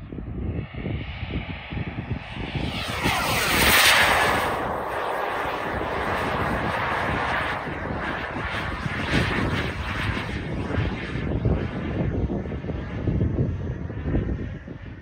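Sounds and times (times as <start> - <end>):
model jet turbine whine passing: 0.2 - 15.0.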